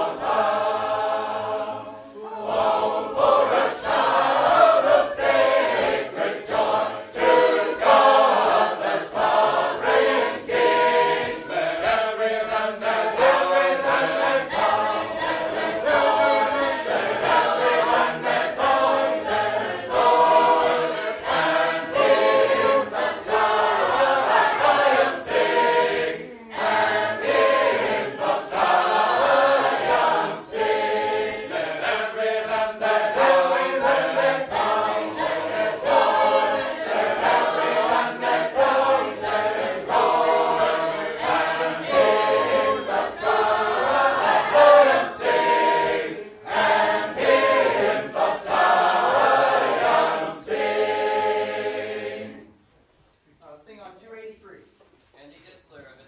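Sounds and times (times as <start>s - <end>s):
choir singing a cappella hymn: 0.0s - 52.7s.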